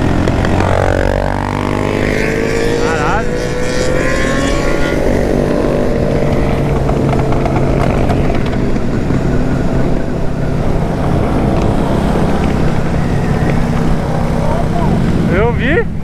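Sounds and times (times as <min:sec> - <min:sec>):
motorcycle engines droning: 0:00.0 - 0:16.0
road and air noise: 0:00.0 - 0:16.0.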